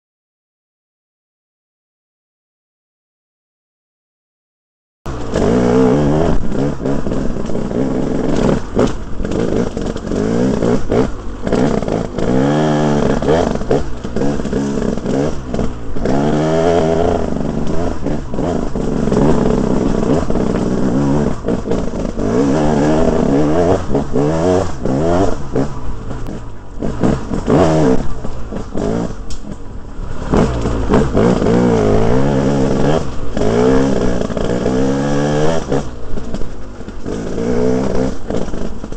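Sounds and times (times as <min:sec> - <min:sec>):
motorcycle engine revving: 0:05.1 - 0:38.9.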